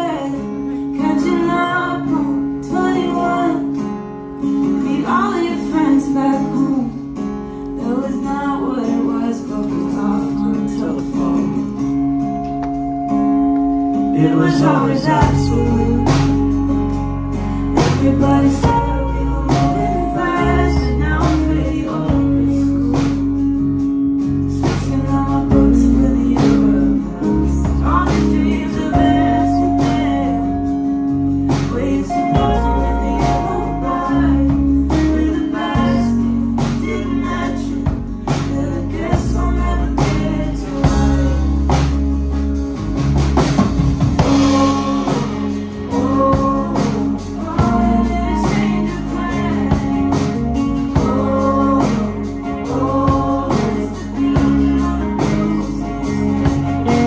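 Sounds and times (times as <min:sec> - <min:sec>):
person singing: 0:00.0 - 0:03.8, 0:04.5 - 0:42.0, 0:44.2 - 0:57.0
folk rock band playing: 0:00.0 - 0:57.0.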